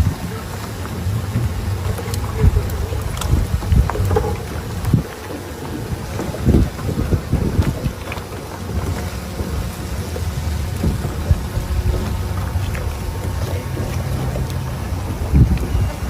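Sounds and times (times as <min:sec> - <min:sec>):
low motor hum: 0:00.0 - 0:16.0
wind on microphone: 0:00.0 - 0:16.0.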